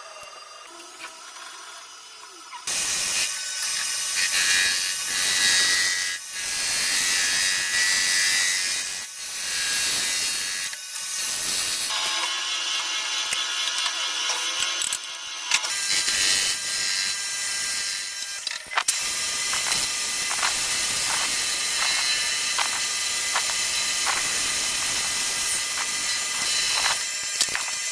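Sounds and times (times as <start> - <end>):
metal being machined: 0.0 - 27.9.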